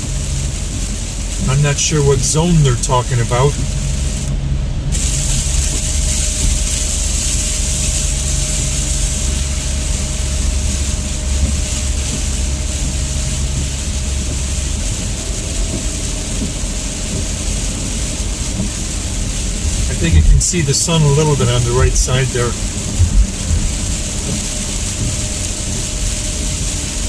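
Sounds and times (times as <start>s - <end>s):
rain: 0.0s - 27.0s
road and engine rumble: 0.0s - 27.0s
tyres hissing on wet pavement: 0.0s - 27.0s.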